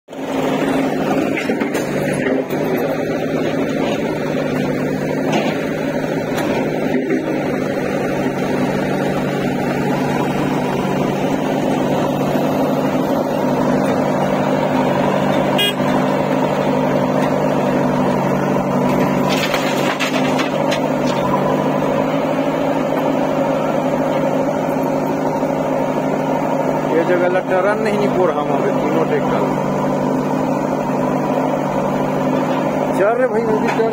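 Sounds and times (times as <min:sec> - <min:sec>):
diesel tractor engines idling: 0:00.1 - 0:33.9.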